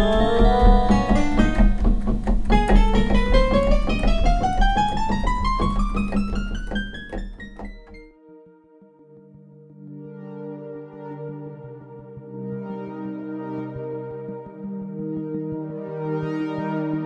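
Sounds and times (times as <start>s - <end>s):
synthesizer notes climbing in pitch: 0.0s - 17.0s.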